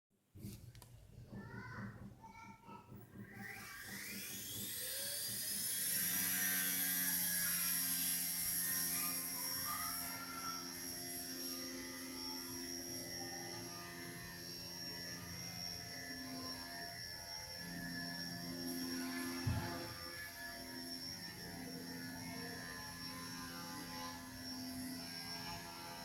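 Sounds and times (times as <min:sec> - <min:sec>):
toy helicopter motor whine: 0:01.3 - 0:26.0.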